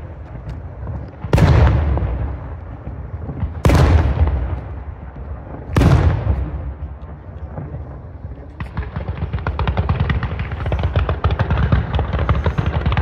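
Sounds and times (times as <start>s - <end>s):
fireworks bangs with rumbling echo: 0.0s - 13.0s.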